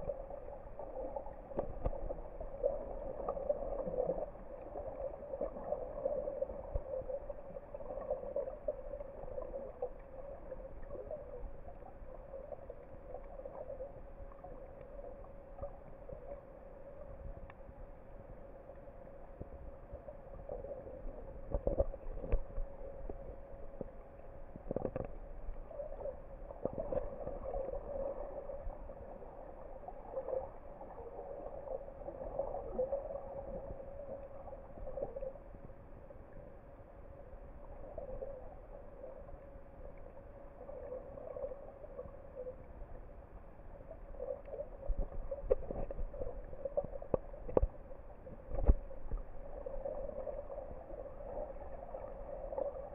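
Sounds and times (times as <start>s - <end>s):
muffled underwater hum: 0.0s - 52.9s.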